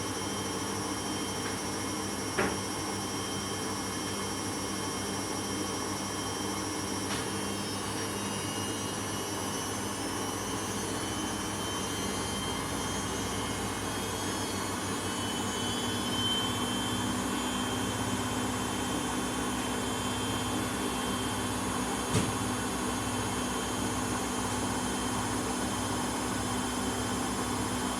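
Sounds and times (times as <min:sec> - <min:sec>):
washing machine whirring drone: 0:00.0 - 0:27.9.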